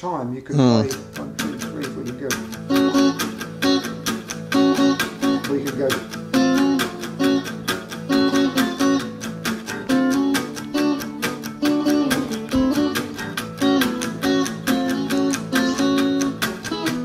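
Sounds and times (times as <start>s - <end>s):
electric guitar blues playing: 0.5s - 17.0s
strummed guitar rhythm: 0.5s - 17.0s.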